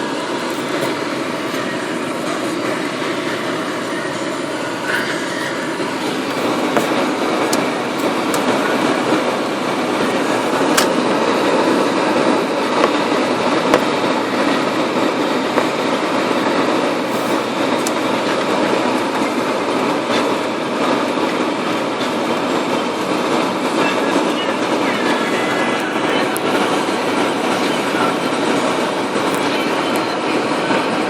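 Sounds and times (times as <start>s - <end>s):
tyre and road noise: 0.0s - 30.2s.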